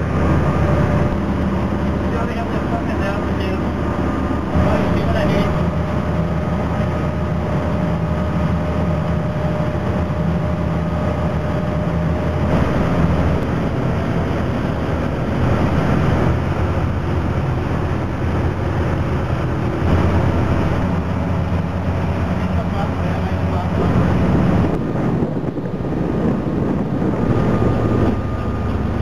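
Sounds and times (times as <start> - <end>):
diesel engines droning: 0.0 - 29.0
water wash: 0.0 - 29.0.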